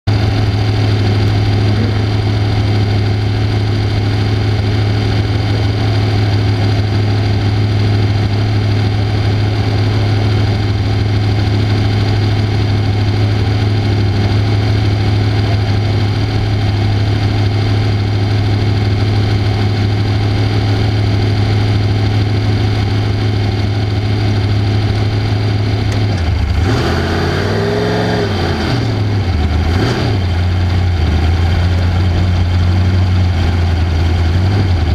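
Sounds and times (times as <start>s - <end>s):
race car engine running: 0.0s - 34.9s.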